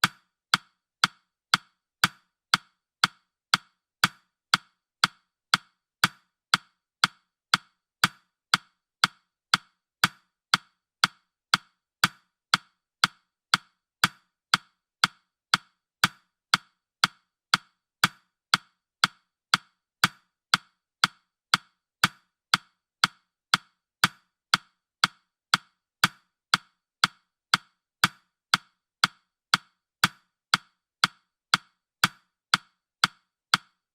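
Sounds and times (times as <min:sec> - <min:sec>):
clock-like timer ticks: 0:00.0 - 0:33.9.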